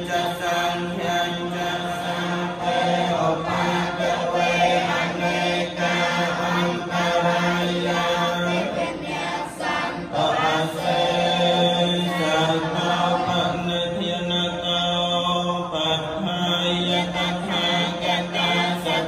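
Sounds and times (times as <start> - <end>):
monks chanting in unison: 0.0 - 19.0.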